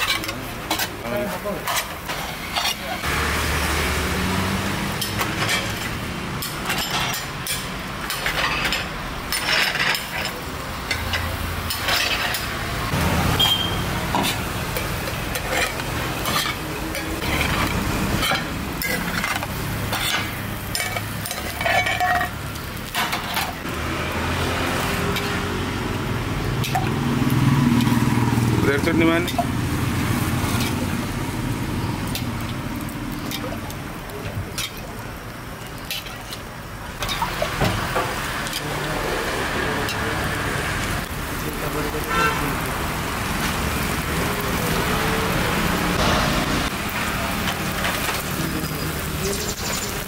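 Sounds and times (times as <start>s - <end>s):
steel utensils clinking on pans: 0.0s - 3.1s, 4.9s - 23.8s, 24.8s - 25.4s, 26.4s - 27.0s, 28.7s - 42.4s, 45.9s - 50.0s
batter sizzling: 0.0s - 50.0s
street traffic hum: 0.0s - 50.0s.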